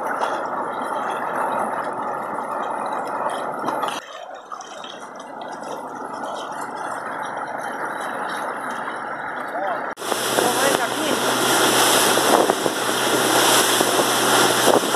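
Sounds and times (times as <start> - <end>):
river water splashing around legs: 0.0 - 14.9.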